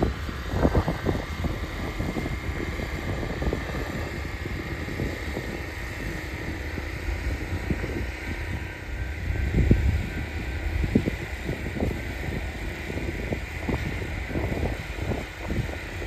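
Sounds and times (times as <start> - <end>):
distant diesel locomotive engines: 0.0 - 16.0.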